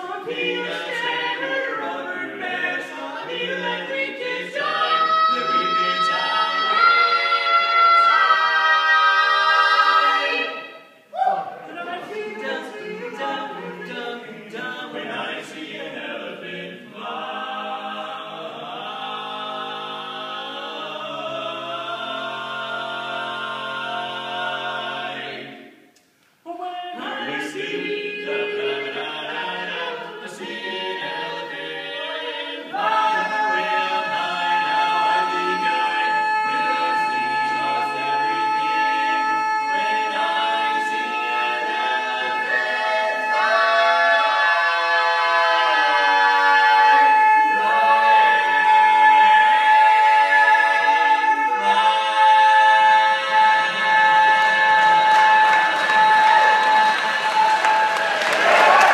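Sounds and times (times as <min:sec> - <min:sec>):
male quartet singing a cappella: 0:00.0 - 0:10.8, 0:11.4 - 0:25.8, 0:26.5 - 0:58.9.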